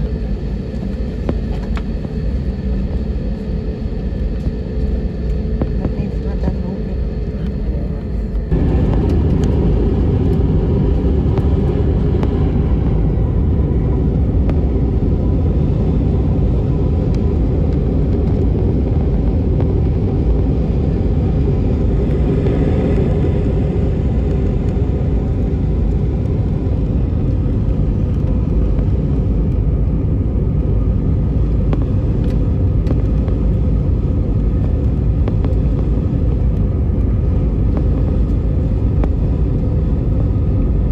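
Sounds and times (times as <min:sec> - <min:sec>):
jet engine and airflow rumble: 0:00.0 - 0:40.9.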